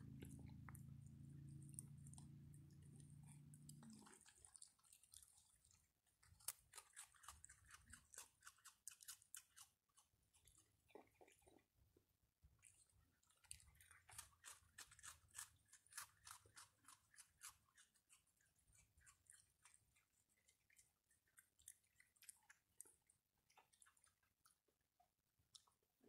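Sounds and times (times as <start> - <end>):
animals crunching dry food: 0.0 - 11.7, 12.6 - 24.7.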